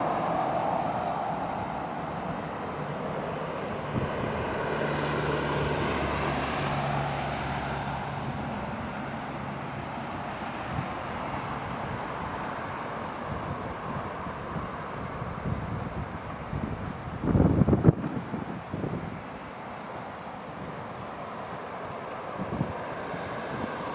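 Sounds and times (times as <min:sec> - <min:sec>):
electric locomotive drone: 0:00.0 - 0:23.9.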